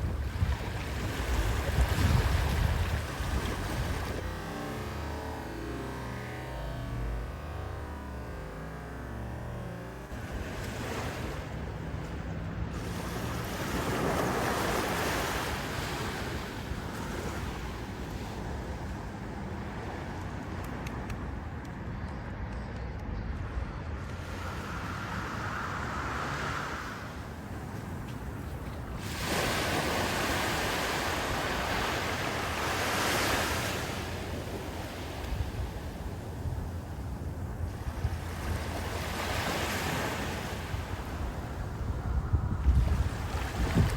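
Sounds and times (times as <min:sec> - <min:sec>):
ocean surf washing on beach: 0:00.0 - 0:05.2, 0:10.1 - 0:21.6, 0:24.0 - 0:43.9
wind rumbling on microphone: 0:00.0 - 0:43.9.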